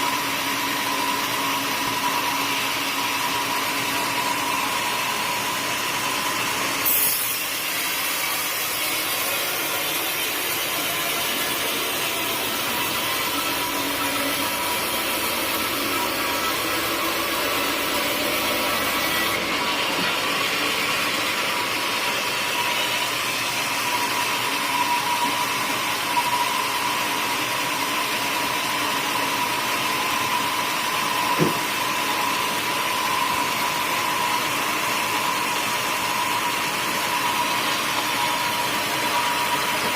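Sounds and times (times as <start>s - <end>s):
sawmill blade cutting log: 0.1s - 39.9s.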